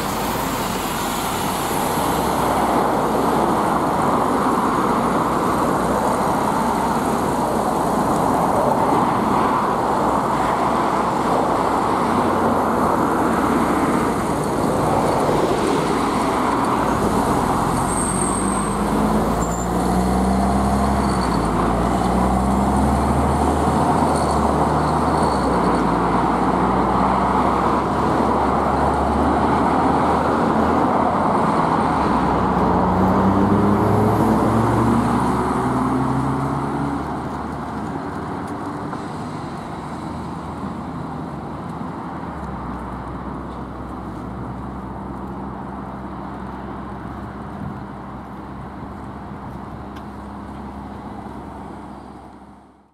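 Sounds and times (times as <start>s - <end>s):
diesel bus engine: 0.0s - 52.9s
passing traffic: 0.0s - 52.9s.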